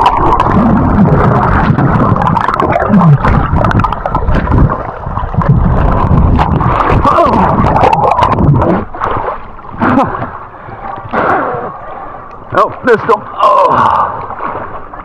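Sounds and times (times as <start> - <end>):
river water gurgling: 0.0 - 15.0
paddle splashes: 1.2 - 15.0.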